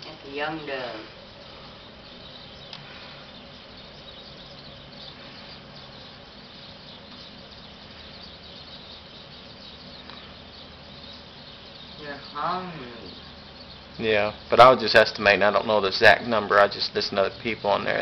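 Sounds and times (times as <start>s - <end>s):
faint high chirping: 0.0s - 18.0s
outdoor background noise: 0.0s - 18.0s.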